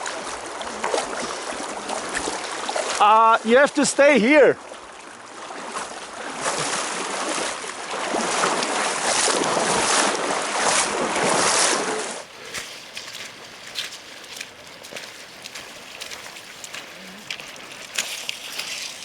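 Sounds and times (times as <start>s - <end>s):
river water rushing and splashing: 0.0s - 19.0s.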